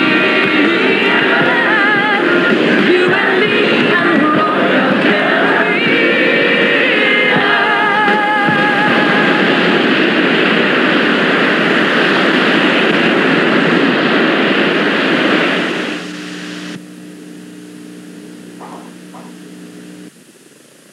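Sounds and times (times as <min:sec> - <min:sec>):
loud rushing noise: 0:00.0 - 0:16.8
low steady hum: 0:00.0 - 0:20.9.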